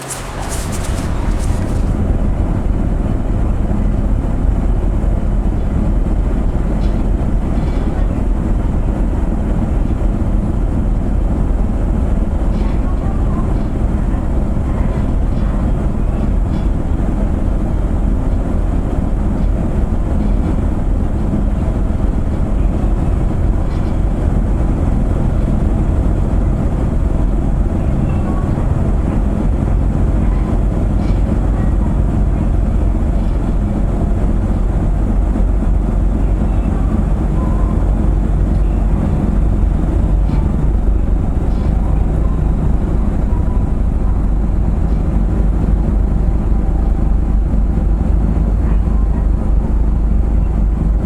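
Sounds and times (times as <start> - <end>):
ferry engines rumbling: 0.0 - 51.0.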